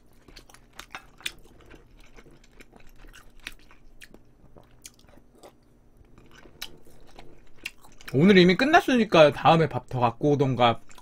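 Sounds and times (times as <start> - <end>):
close chewing with wet mouth sounds: 0.0 - 8.6, 10.7 - 11.0.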